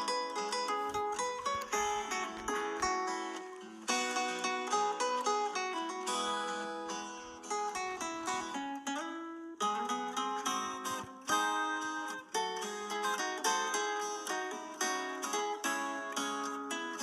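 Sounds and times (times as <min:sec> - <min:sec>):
plucked acoustic guitar music: 0:00.0 - 0:17.0.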